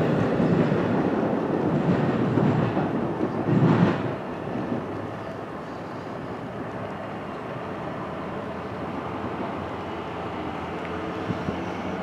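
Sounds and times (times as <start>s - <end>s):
distant train rumbling: 0.0s - 12.0s.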